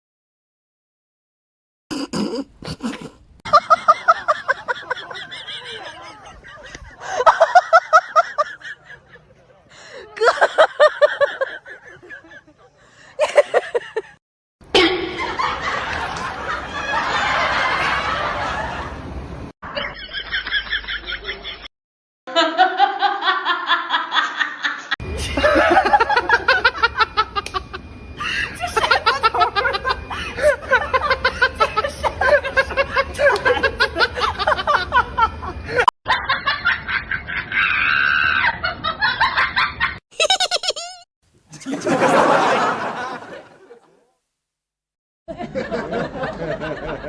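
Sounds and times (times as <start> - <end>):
people laughing: 2.6 - 14.2, 14.8 - 19.1, 19.7 - 21.7, 22.3 - 44.0, 45.3 - 47.0.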